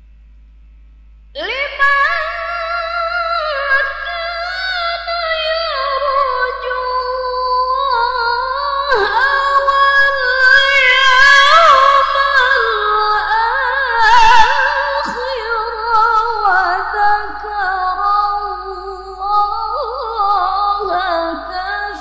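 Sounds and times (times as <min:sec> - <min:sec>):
woman reciting melodically: 0:01.4 - 0:22.0.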